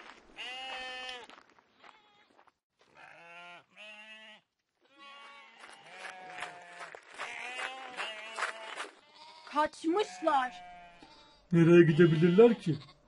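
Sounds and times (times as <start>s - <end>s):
sheep bleating: 0.4s - 13.0s.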